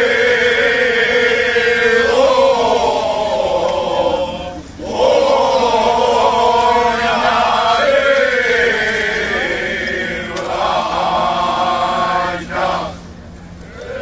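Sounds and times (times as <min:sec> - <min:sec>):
men singing unaccompanied: 0:00.0 - 0:13.1.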